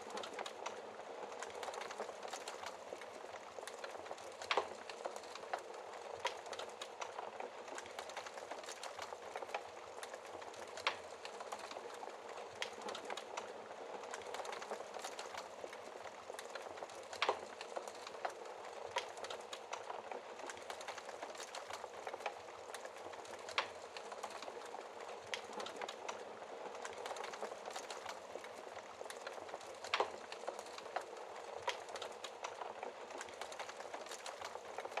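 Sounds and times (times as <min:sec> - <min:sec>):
burning logs crackling: 0:00.0 - 0:35.0.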